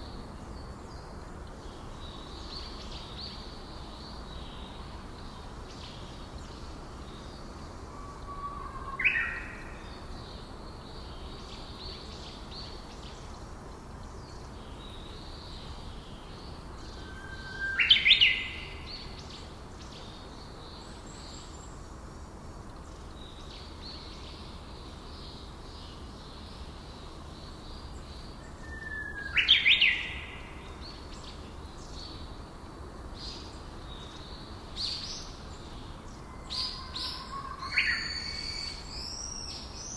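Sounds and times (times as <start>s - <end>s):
faint birds twittering: 0.0s - 39.9s.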